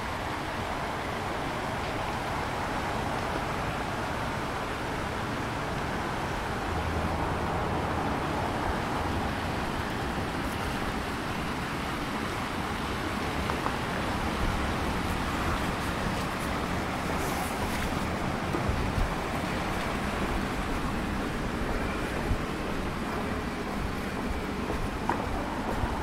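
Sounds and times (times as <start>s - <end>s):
outdoor street ambience: 0.0s - 26.0s.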